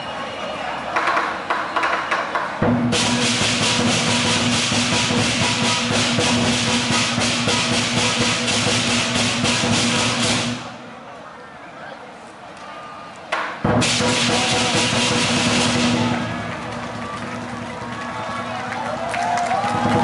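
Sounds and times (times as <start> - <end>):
drum beating: 1.0 - 10.8, 13.4 - 20.0.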